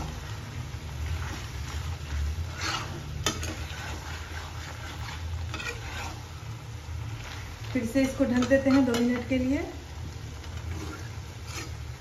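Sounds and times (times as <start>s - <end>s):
faint frying sizzle: 0.0s - 12.0s
metal tongs scraping through curry: 1.0s - 9.3s, 10.4s - 12.0s.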